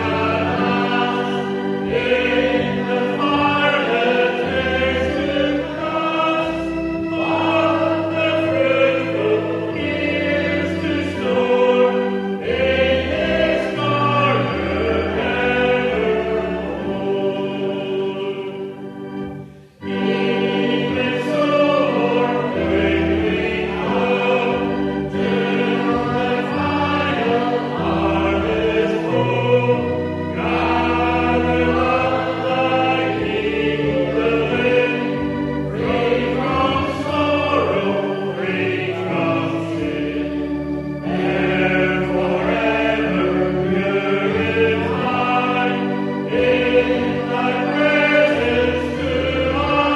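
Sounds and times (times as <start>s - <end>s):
congregation singing a hymn: 0.0s - 49.9s
instrumental accompaniment: 0.0s - 49.9s.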